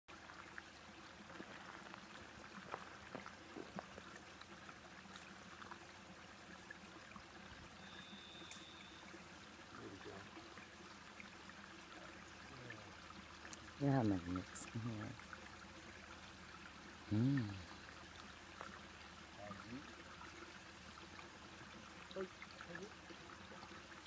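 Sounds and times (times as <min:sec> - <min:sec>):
faint steady hiss: 0:00.1 - 0:24.0.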